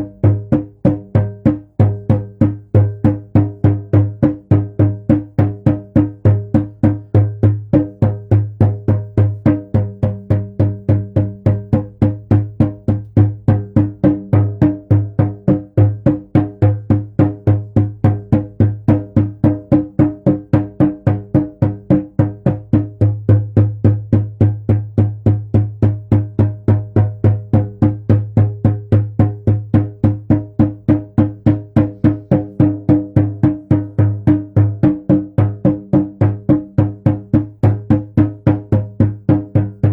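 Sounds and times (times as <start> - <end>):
hand drum beating: 0.0 - 39.9.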